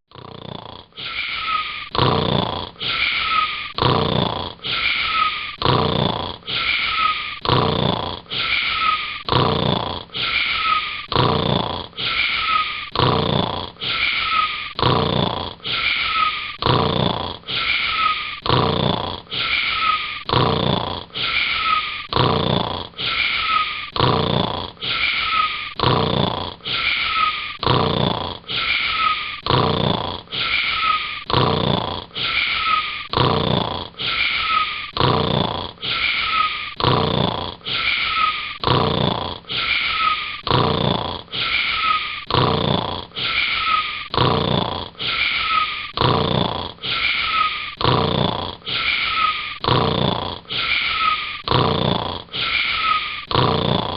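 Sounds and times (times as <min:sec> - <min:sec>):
person snoring: 0:00.1 - 0:53.9.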